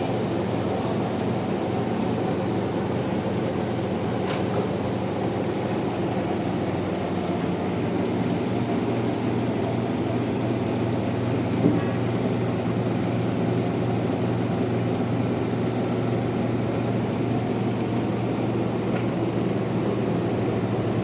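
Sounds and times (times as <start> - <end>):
sawmill machinery drone: 0.0 - 21.0.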